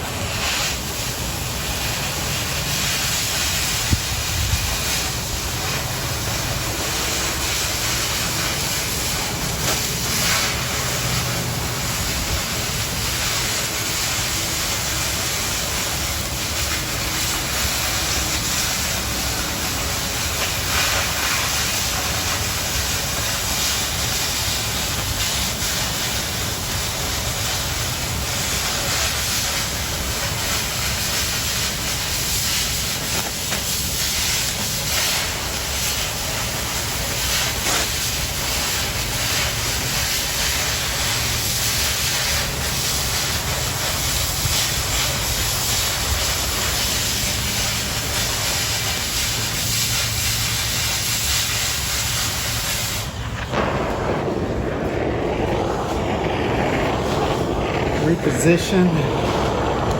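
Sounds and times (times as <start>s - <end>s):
cutting torch hissing: 0.0s - 59.9s
torch sharp pop: 0.0s - 59.9s.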